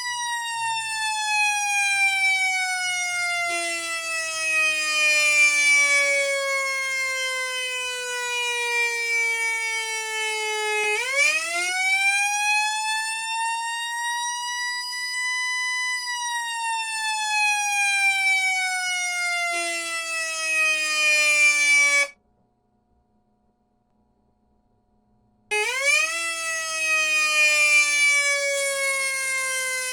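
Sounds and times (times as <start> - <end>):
electronic siren mechanical tone: 0.0 - 22.1, 25.5 - 29.9.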